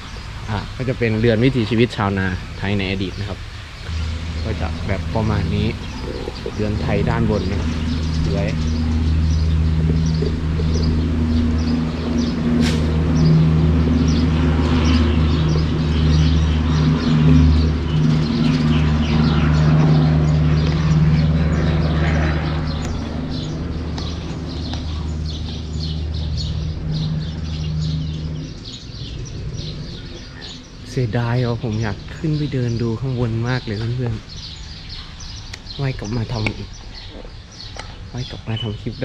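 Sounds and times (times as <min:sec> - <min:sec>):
low mechanical hum: 0:00.0 - 0:39.0
small birds chirping: 0:00.0 - 0:39.0.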